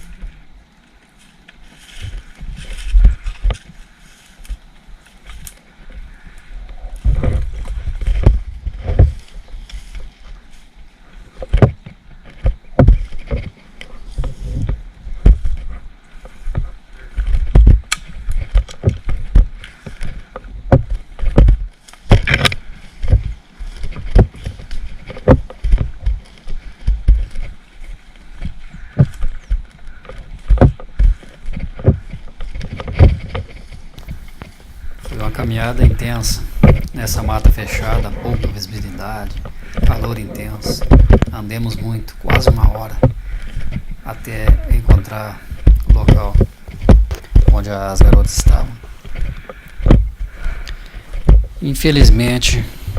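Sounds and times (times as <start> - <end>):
footsteps in undergrowth: 0.0 - 52.9
rustling: 0.0 - 52.9.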